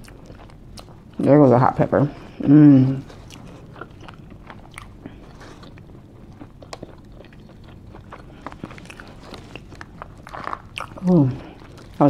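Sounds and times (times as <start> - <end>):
person chewing: 0.0 - 1.3, 2.1 - 12.0.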